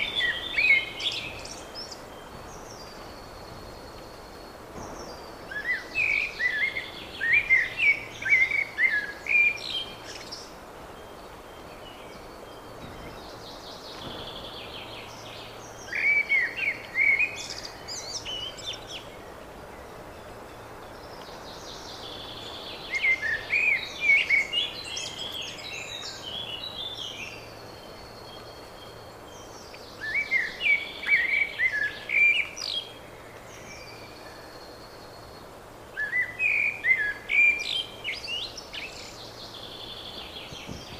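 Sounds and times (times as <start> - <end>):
faint calls of other birds: 0.0 - 40.9
songbird singing: 0.0 - 40.9.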